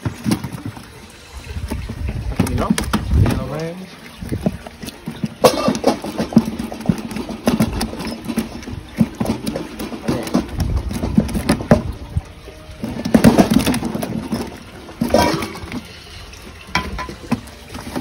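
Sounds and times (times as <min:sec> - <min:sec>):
fish thrashing in plastic bucket: 0:00.0 - 0:18.0.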